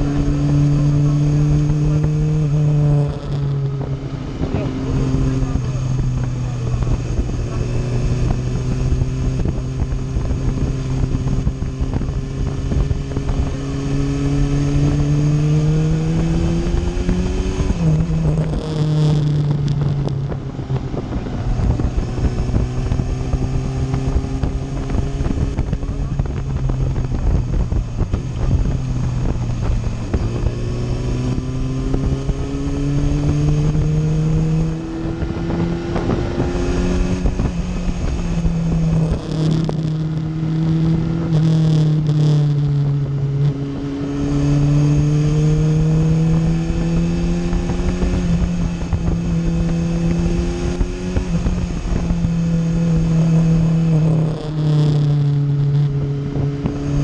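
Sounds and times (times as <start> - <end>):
motorcycle engine revving: 0.0 - 57.0
wind noise on microphone: 0.0 - 57.0.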